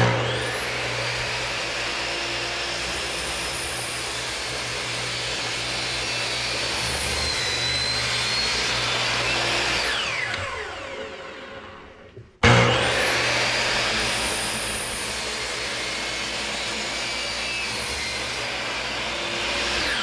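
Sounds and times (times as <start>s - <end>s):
electric chop saw cutting: 0.0s - 20.0s.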